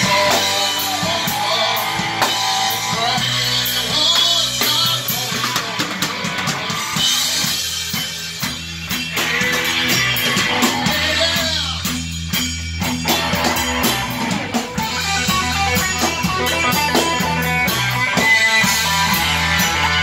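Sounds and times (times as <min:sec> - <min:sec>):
bass guitar: 0:00.0 - 0:20.0
drum kit with cymbals: 0:00.0 - 0:20.0
electric guitar: 0:00.0 - 0:20.0.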